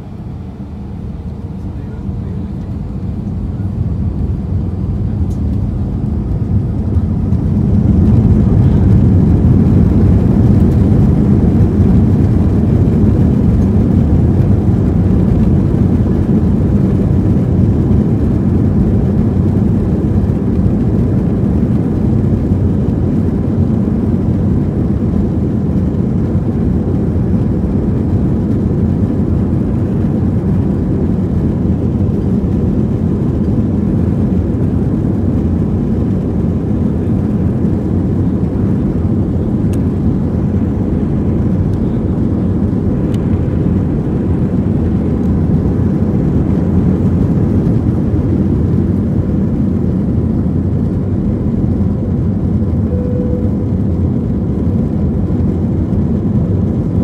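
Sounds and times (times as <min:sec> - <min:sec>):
jet engines rumbling in cabin: 0:00.0 - 0:57.0.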